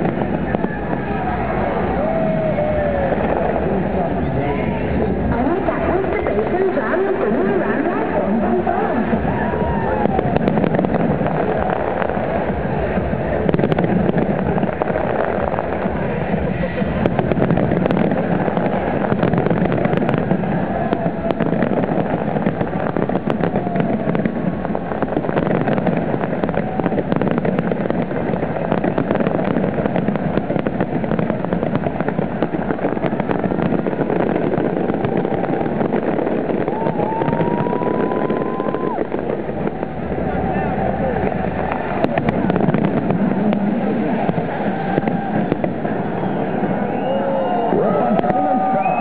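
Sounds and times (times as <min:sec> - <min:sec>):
rising firework whistle: 0:00.0 - 0:05.1, 0:09.0 - 0:49.0
fireworks bursting: 0:00.0 - 0:49.0.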